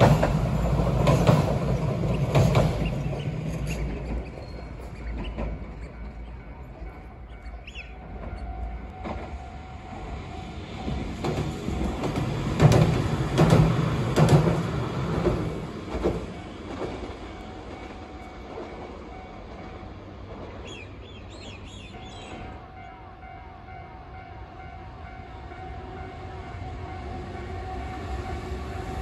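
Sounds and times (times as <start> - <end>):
tram running noise: 0.0 - 29.0.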